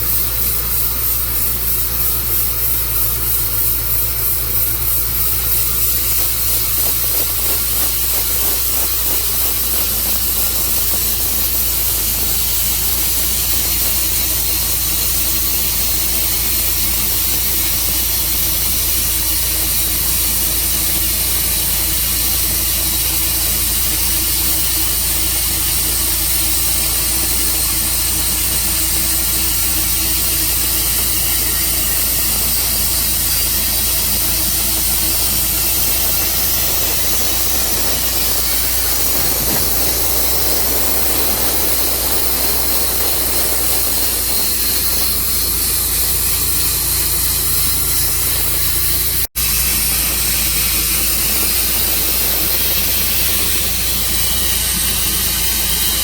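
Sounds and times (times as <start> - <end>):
engine noise: 0.0 - 56.0
loud even hiss: 0.0 - 56.0.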